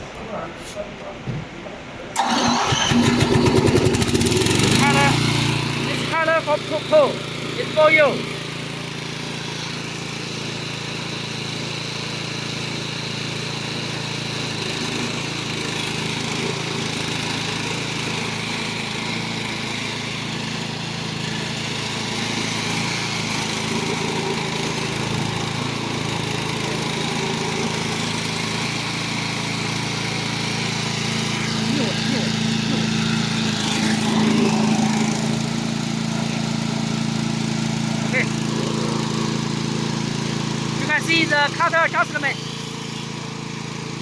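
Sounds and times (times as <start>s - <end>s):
lawn mower engine running: 2.2s - 44.0s.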